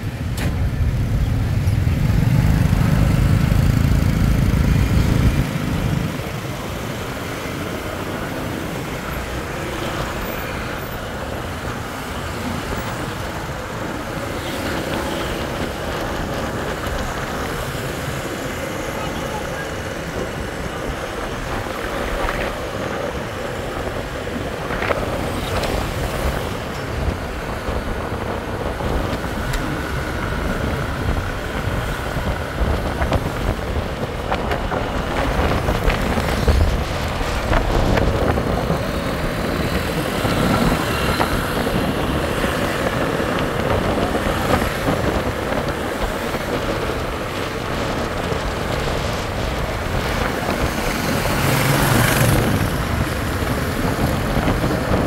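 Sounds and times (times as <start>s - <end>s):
motor vehicles passing: 0.0s - 55.0s
wind buffeting microphone: 0.0s - 55.0s.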